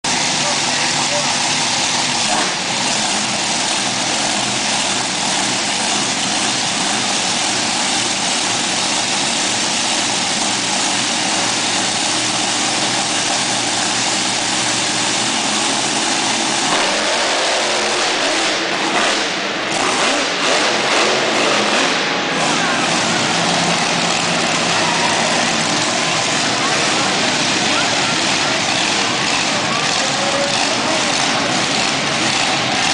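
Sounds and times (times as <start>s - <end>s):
monster truck engines revving: 0.0s - 32.9s.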